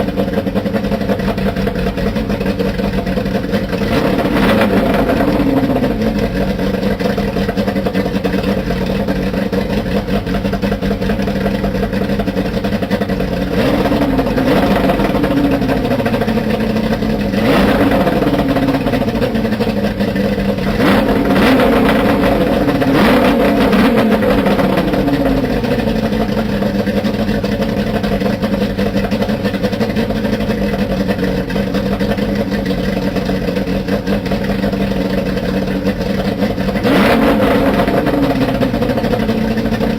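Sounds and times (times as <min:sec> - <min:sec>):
outboard motor revving: 0:00.0 - 0:39.9.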